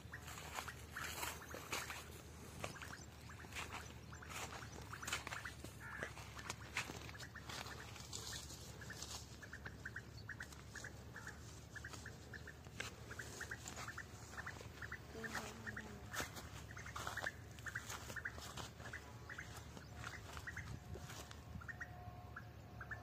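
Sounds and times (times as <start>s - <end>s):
leafy branches rustling: 0.0s - 21.4s
short bird calls: 0.0s - 22.0s.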